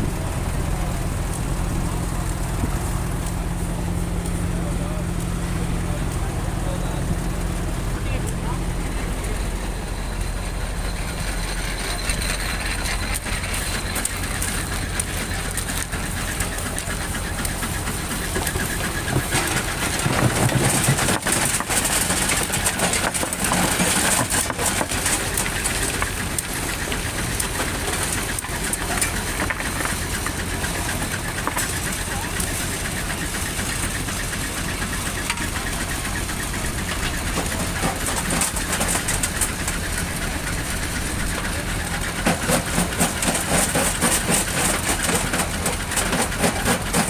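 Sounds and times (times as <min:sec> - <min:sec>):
construction machine engine clattering: 0:00.0 - 0:47.0.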